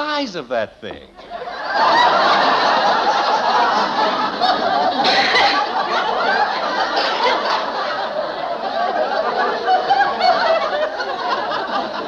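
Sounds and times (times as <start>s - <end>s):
audience laughing: 1.0s - 12.0s.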